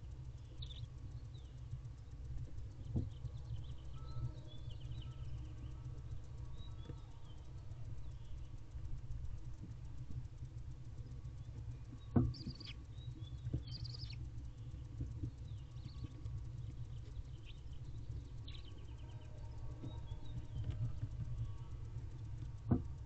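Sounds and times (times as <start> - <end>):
low hum: 0.0 - 23.0
owl nestlings chittering: 0.2 - 9.7, 10.4 - 22.5.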